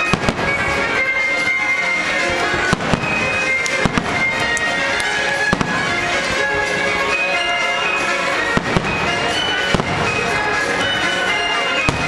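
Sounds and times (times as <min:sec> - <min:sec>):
music soundtrack: 0:00.0 - 0:12.0.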